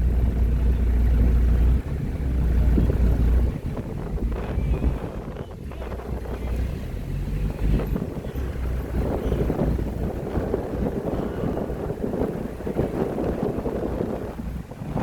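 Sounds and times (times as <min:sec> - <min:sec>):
car rumble: 0:00.0 - 0:15.0
wind buffeting microphone: 0:00.0 - 0:15.0.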